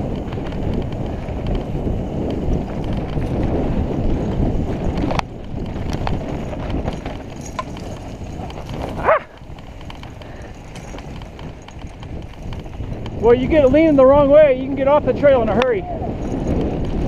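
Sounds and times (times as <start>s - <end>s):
bike rattling: 0.0s - 17.0s
bike tyres on dirt: 0.0s - 17.0s.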